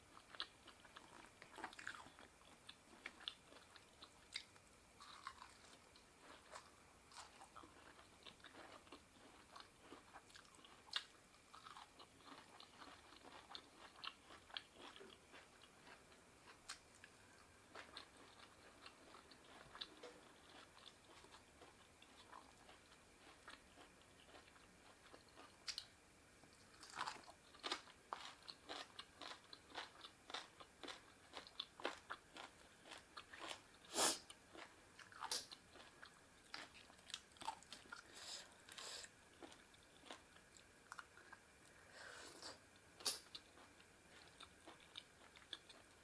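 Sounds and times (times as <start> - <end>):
person chewing crunchy food: 0.1 - 25.9, 26.5 - 46.0.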